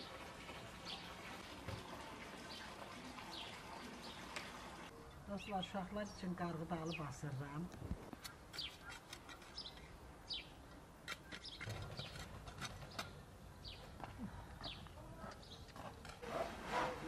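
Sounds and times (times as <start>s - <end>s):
small birds chirping: 0.8s - 1.8s, 2.4s - 16.2s.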